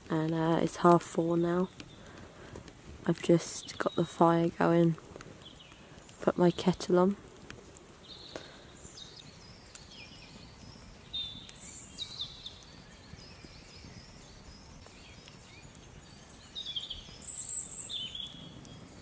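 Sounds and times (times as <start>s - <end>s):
campfire crackling: 0.0s - 19.0s
songbirds chirping: 0.0s - 19.0s.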